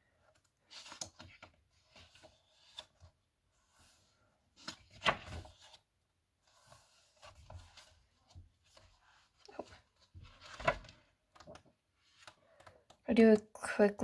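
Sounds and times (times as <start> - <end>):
paper pages rustling: 0.3 - 4.0, 4.6 - 12.7.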